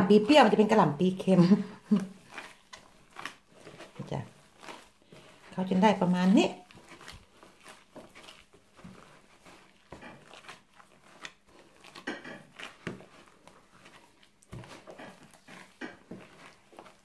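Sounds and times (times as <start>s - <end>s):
hands kneading wet mixture: 0.0s - 17.0s.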